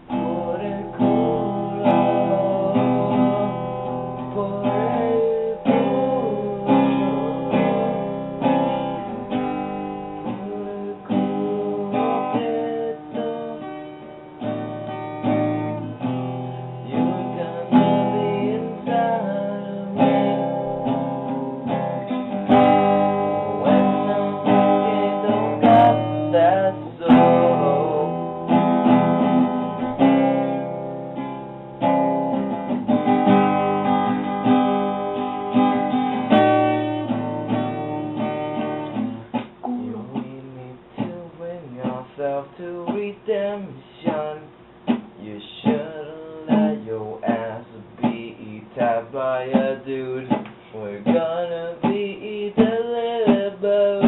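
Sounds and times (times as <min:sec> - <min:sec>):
strummed acoustic guitar song: 0:00.0 - 0:54.0.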